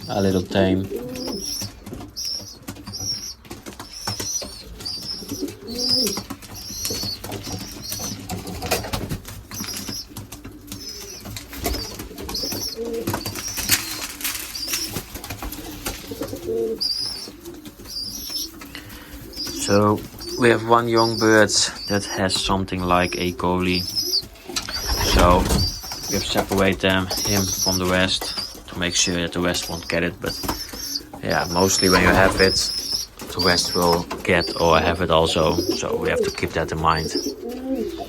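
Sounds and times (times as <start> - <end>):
pigeons cooing: 0.0 - 38.0
young pigeons peeping: 0.0 - 38.0.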